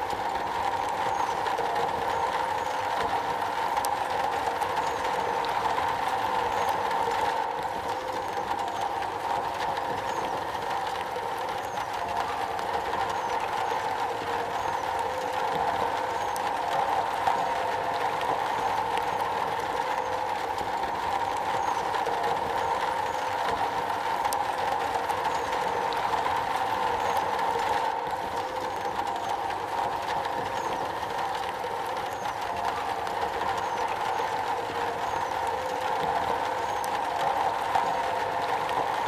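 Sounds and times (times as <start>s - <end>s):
rain on a metal roof: 0.0s - 39.0s.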